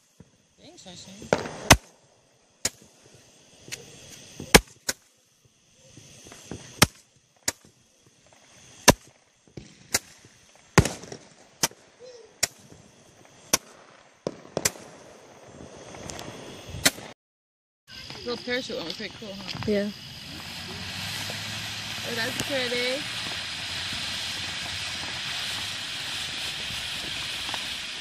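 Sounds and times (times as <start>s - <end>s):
fireworks bangs: 0.0s - 17.2s, 17.9s - 28.0s.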